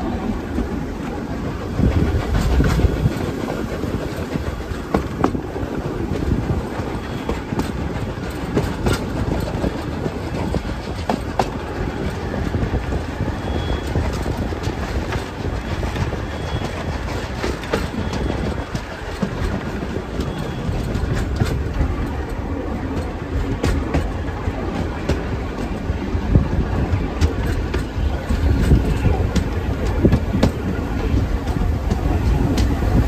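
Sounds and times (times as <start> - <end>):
train coaches rumbling on track: 0.0 - 33.0
wheels clicking on rails: 0.0 - 33.0.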